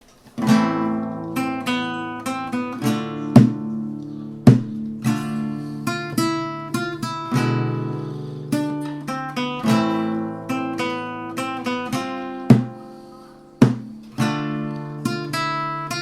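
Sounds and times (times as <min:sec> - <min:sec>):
acoustic guitar strumming: 0:00.3 - 0:16.0.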